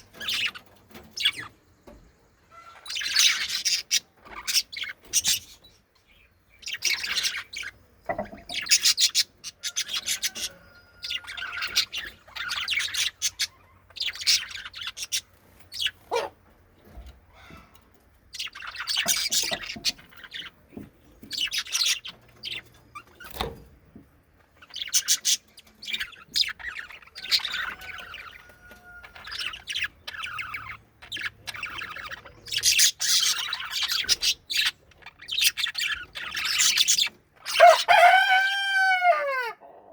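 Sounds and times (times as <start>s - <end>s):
budgies chattering and chirping: 0.0s - 38.3s.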